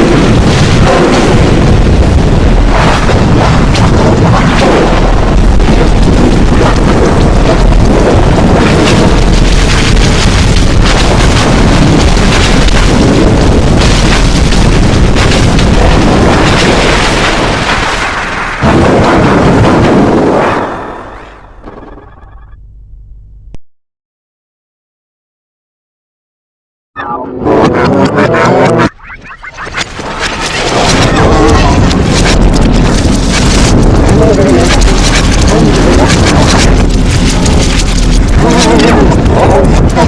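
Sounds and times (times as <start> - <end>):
loud distorted rumbling noise: 0.0 - 23.6, 27.1 - 40.0.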